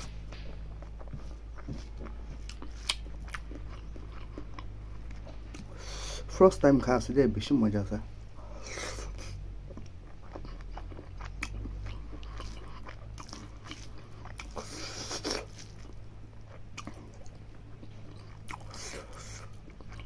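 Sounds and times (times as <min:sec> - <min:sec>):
man chewing food: 0:00.0 - 0:06.4, 0:08.1 - 0:20.0
low steady hum: 0:00.0 - 0:20.0.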